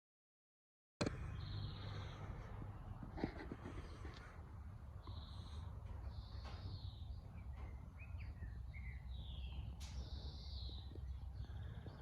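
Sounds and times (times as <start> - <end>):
birds chirping: 1.0 - 12.0
low background rumble: 1.0 - 12.0.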